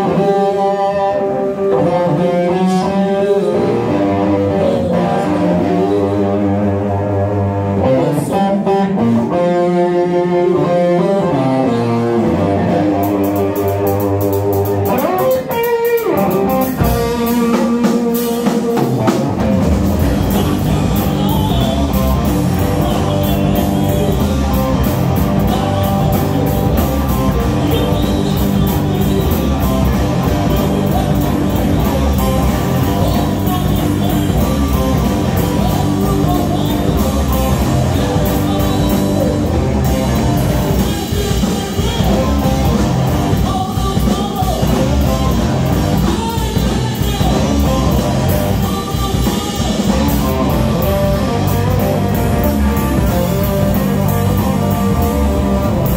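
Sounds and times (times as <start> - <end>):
bass guitar: 0.0 - 55.9
drums: 0.0 - 55.9
electric guitar: 0.0 - 55.9.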